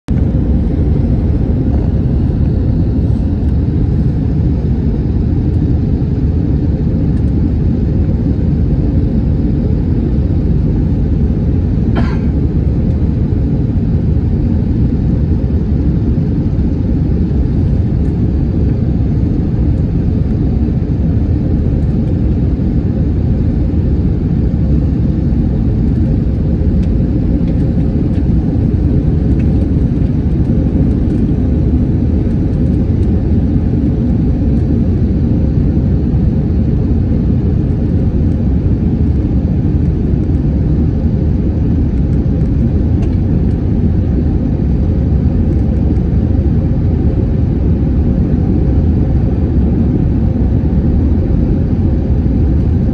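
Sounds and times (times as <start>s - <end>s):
airliner engines rumbling: 0.1s - 52.9s.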